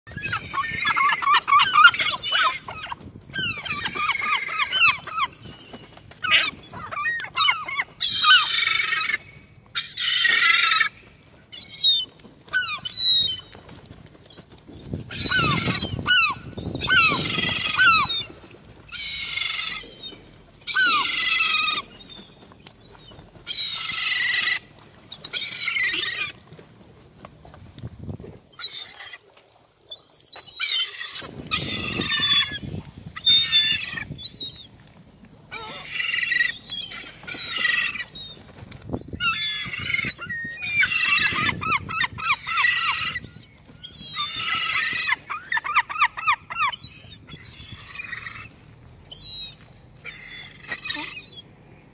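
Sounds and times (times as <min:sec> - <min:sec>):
gulls squealing calls: 0:00.1 - 0:13.6, 0:15.1 - 0:26.4, 0:30.0 - 0:34.7, 0:35.5 - 0:38.4, 0:39.1 - 0:51.5.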